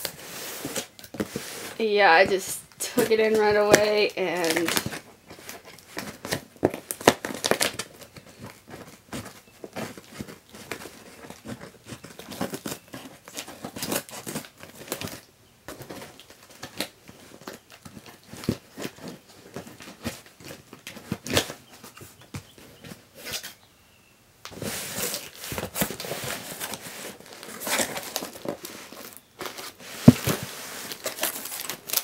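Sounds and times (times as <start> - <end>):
packing tape ripping: 0.0 - 21.6, 24.5 - 32.0
cardboard flaps scraping and rustling: 0.0 - 23.6, 24.5 - 32.0.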